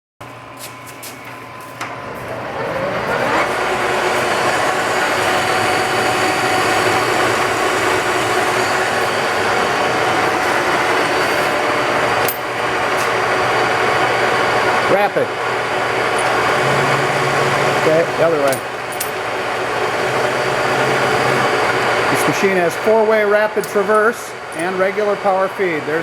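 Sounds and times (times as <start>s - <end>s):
lathe whine and gear drone: 0.3s - 26.0s.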